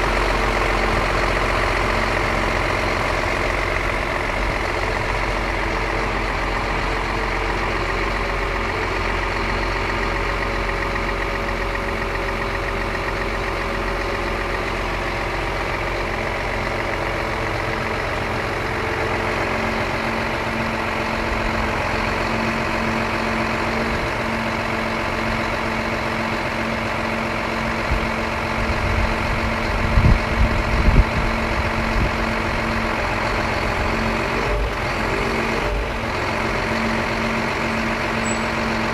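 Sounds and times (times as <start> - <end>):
diesel lorry idling: 0.0 - 38.9.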